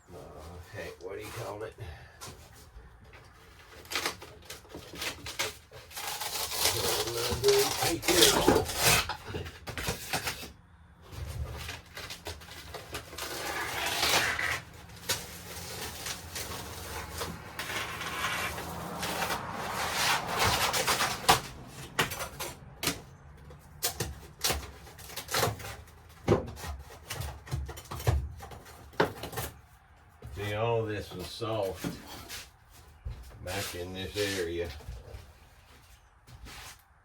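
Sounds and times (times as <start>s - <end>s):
wall covering scraping and tearing: 0.0s - 36.9s.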